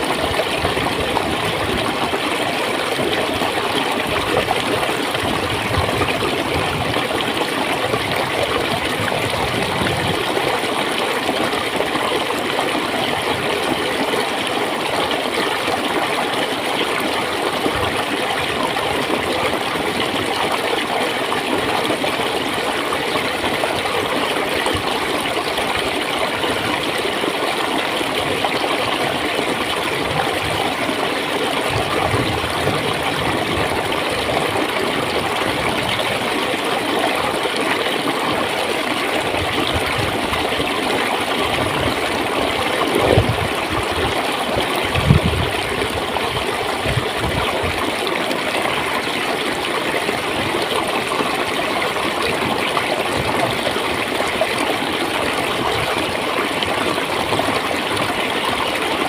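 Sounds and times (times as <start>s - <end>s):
stream gurgling over rocks: 0.0s - 59.0s.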